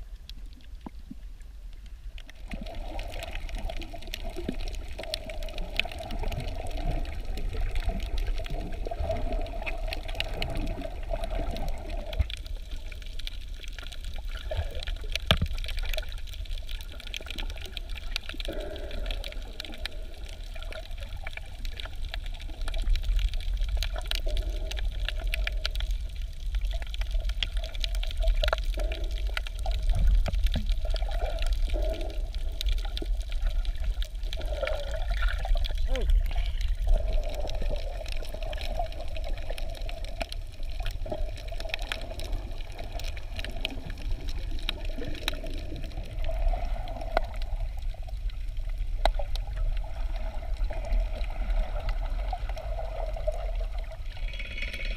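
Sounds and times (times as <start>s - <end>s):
faint crackling clicks underwater: 0.0s - 54.9s
underwater low rumble: 0.0s - 54.9s.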